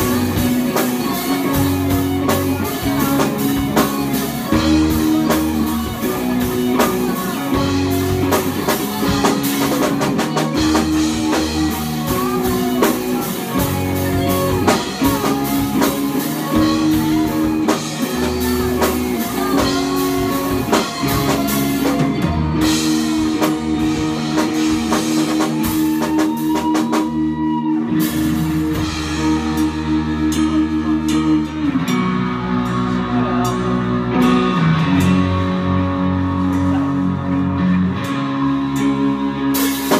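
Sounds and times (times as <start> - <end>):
distorted electric guitars: 0.0 - 39.9
drum kit beat: 0.0 - 39.9.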